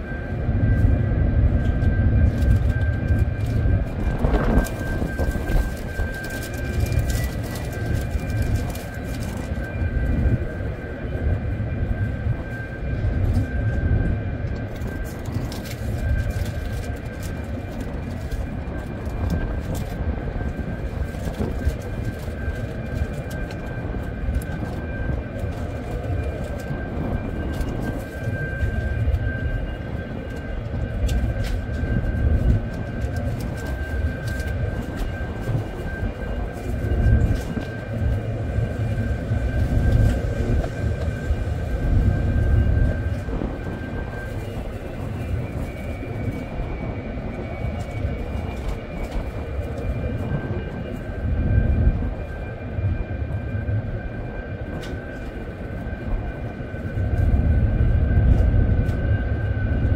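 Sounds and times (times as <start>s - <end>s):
ship engines droning: 0.0s - 59.9s.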